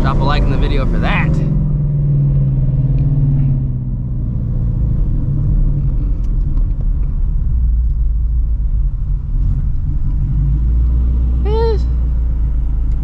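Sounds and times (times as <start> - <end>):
deep car exhaust rumble: 0.0 - 13.0.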